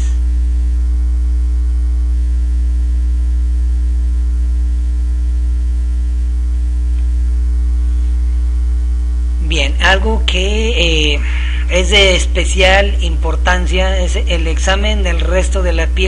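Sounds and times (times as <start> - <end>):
loud electrical mains hum: 0.0 - 16.0.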